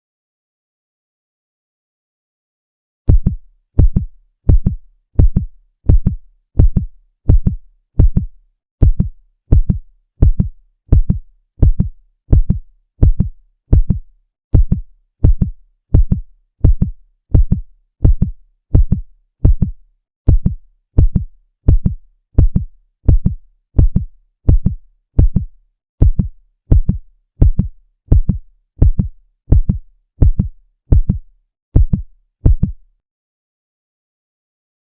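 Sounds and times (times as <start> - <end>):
heartbeat thumps: 3.1 - 32.9.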